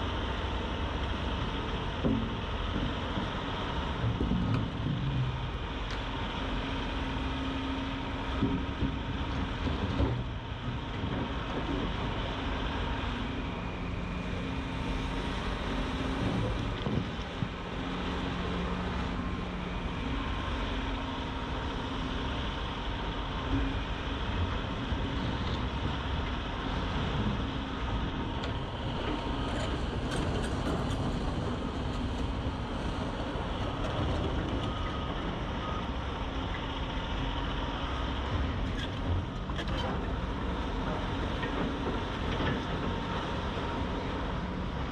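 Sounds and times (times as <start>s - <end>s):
heavy machinery diesel engines: 0.0s - 44.9s.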